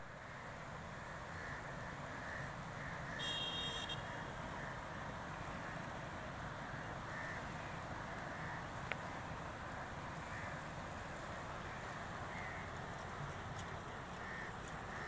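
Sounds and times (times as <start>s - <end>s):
rushing canal water: 0.0s - 15.0s.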